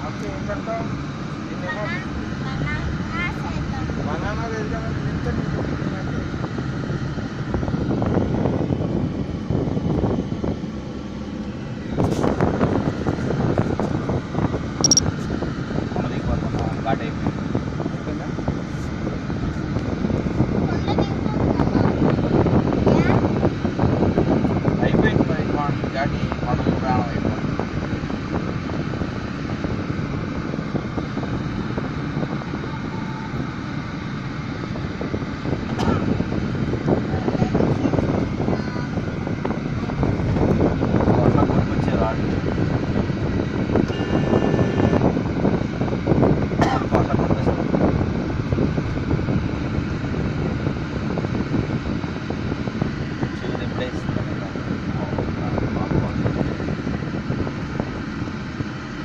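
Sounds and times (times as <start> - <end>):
vehicle engine and road noise: 0.0 - 59.0
wind buffeting microphone: 0.0 - 59.0.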